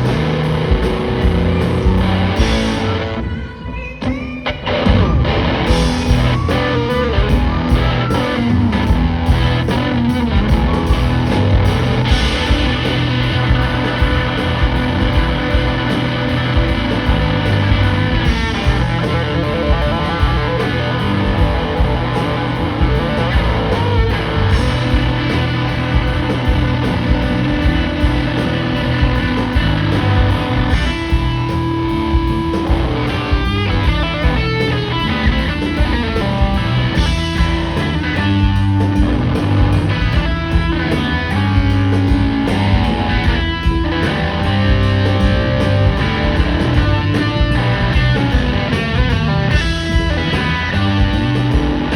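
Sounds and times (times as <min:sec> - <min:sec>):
electric guitar: 0:00.0 - 0:51.9
live blues-rock band: 0:00.0 - 0:51.9.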